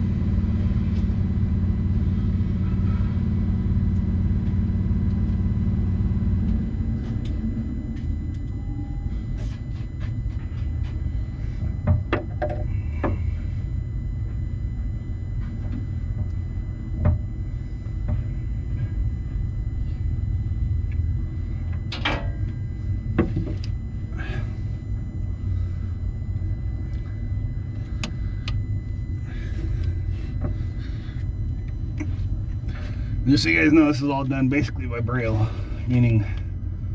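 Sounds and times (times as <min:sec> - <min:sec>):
engine low rumble: 0:00.0 - 0:36.9
higher hum: 0:00.0 - 0:36.9.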